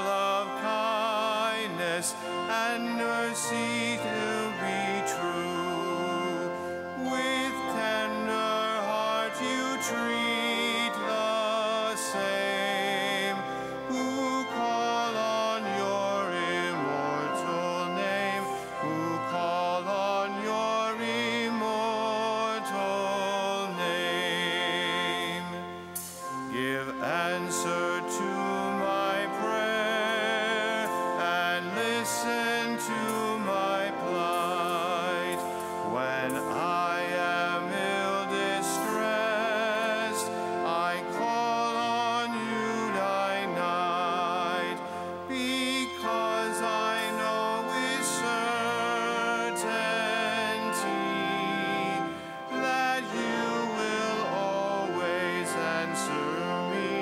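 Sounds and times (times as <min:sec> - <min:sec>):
cantor singing hymn with vibrato: 0:00.0 - 0:57.0
organ: 0:00.0 - 0:57.0.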